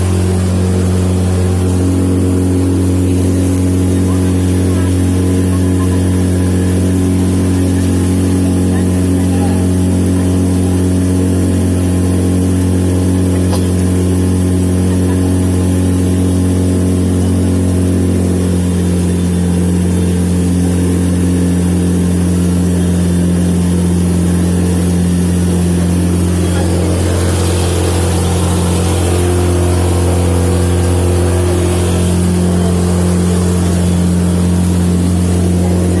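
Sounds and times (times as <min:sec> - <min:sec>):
motorboat engine humming: 0:00.0 - 0:36.0.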